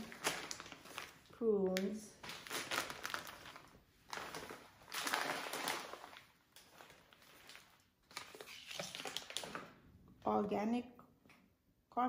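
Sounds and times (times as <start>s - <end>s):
packaging rustling and crinkling: 0.0s - 9.8s.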